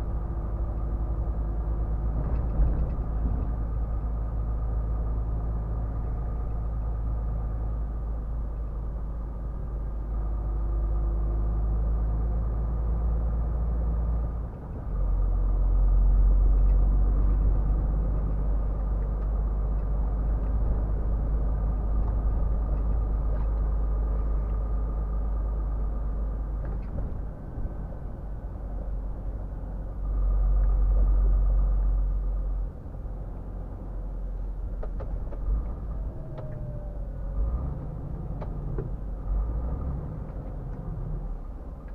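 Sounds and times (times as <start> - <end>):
diesel truck engine running: 0.0 - 41.9
road rumble: 0.0 - 41.9.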